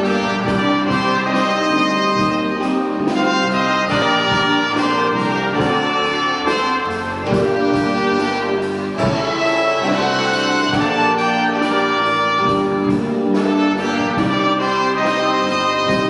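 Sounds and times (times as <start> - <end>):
orchestral music with brass: 0.0 - 16.0.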